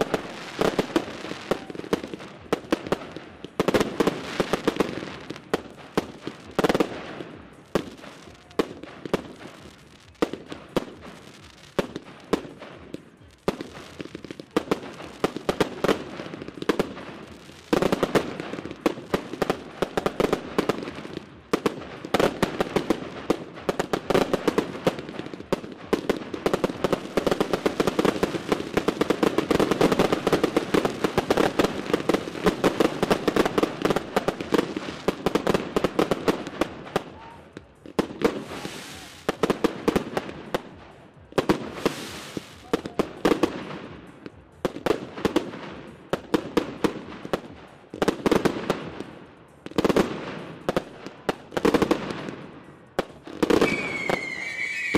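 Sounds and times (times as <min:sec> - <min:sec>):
fireworks bangs: 0:00.0 - 0:54.9
fireworks crackling: 0:00.0 - 0:54.9.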